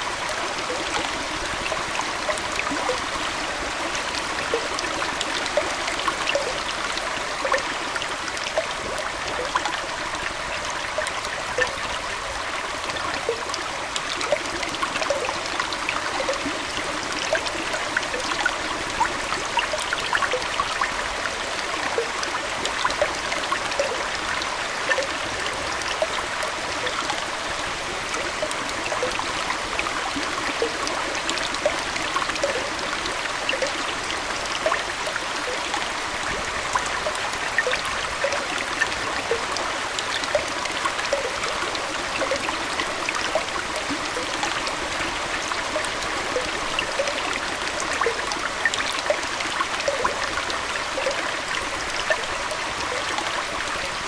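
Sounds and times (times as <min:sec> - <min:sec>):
aquarium water trickling: 0:00.0 - 0:54.0
small water plinks: 0:00.0 - 0:54.0.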